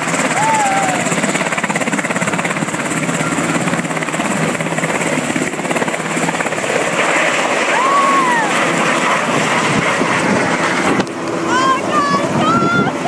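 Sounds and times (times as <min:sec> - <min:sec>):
helicopter lifting off: 0:00.0 - 0:13.0.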